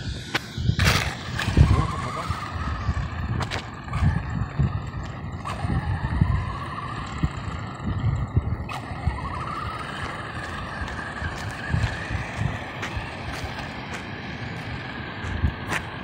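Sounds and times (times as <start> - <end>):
electric motor and gears whining: 0.0 - 16.0
low uneven rumble: 0.0 - 16.0.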